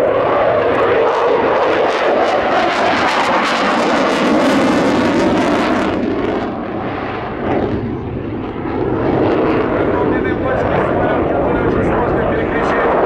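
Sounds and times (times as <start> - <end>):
jet afterburner roar with crackle: 0.0 - 13.0.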